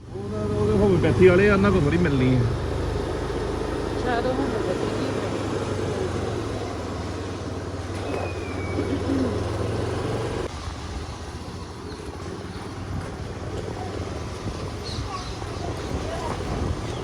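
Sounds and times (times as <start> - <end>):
road traffic noise: 0.0 - 17.0
vehicle engine low hum: 0.0 - 17.0.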